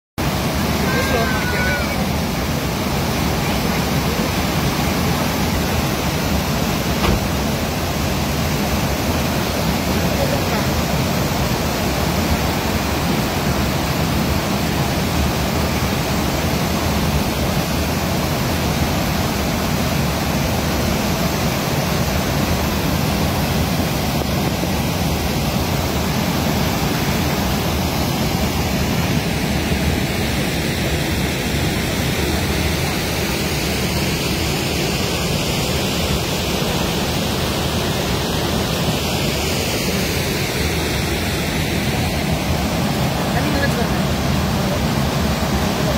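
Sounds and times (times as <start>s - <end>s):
river water rushing: 0.2s - 45.9s.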